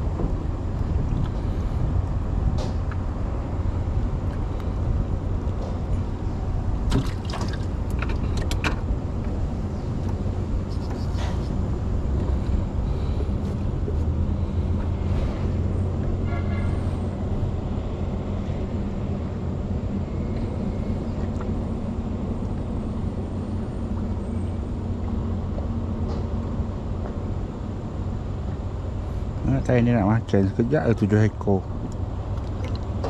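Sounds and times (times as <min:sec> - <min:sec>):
motor engine running steadily: 0:00.0 - 0:33.0.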